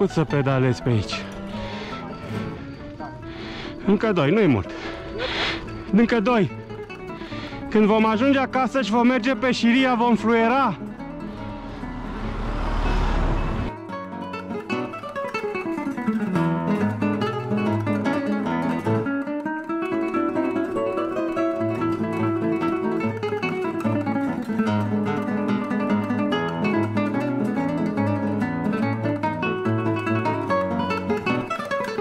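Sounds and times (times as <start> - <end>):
acoustic guitar plucking: 0.0 - 32.0.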